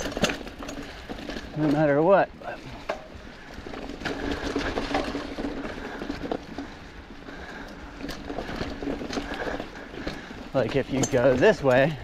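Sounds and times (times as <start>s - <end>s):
bike knocks and rattles: 0.0s - 12.0s
bike tyres over leaves and dirt: 0.0s - 12.0s.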